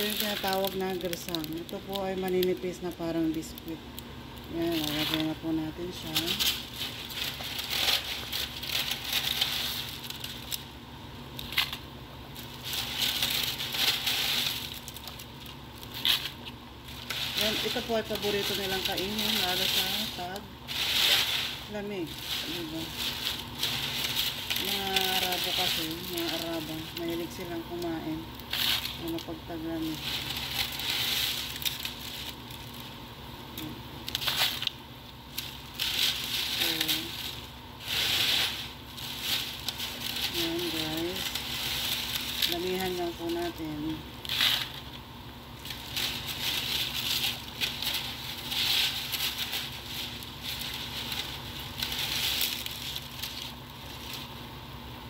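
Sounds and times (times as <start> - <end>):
flatbread crackling and crunching: 0.0 - 54.7
plastic bag crinkling: 0.0 - 55.0.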